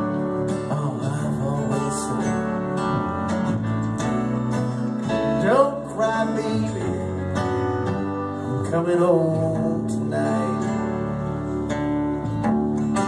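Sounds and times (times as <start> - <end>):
strummed acoustic guitars: 0.0 - 13.0
upright bass: 0.0 - 13.0.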